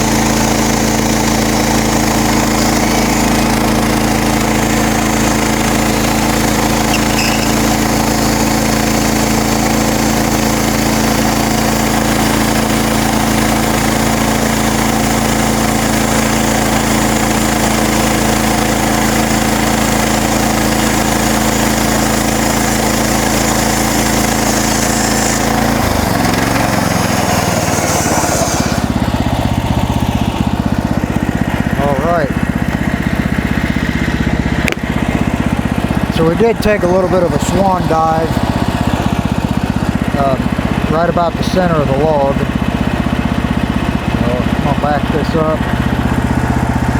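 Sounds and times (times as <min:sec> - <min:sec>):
band blade sawing log: 0:00.0 - 0:35.4, 0:36.0 - 0:43.1, 0:44.0 - 0:46.9
sawmill engine running: 0:00.0 - 0:46.9.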